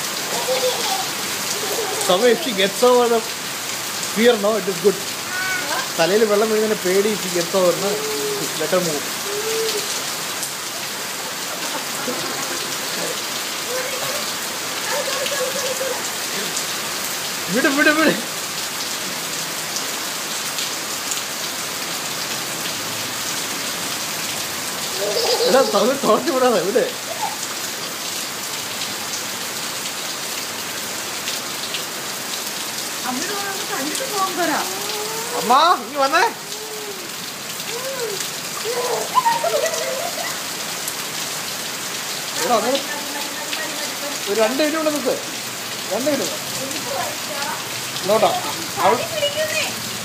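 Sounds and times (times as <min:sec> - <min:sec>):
rain on tiled paving: 0:00.0 - 0:50.0
water streaming: 0:00.0 - 0:50.0.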